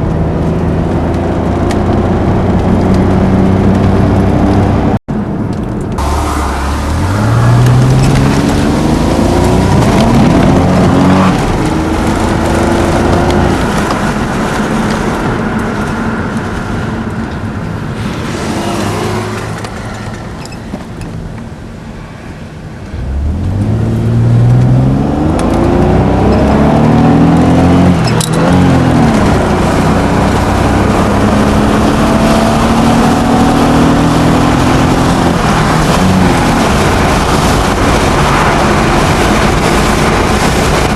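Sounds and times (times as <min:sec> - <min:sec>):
car engine accelerating hard: 0:05.9 - 0:21.0, 0:22.8 - 0:40.9.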